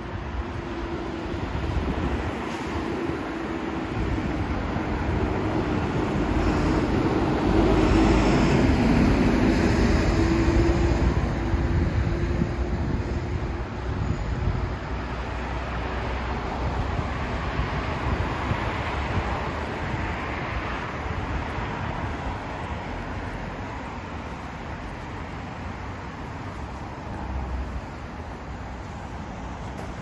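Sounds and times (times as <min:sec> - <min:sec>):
low traffic rumble: 0:00.0 - 0:30.0.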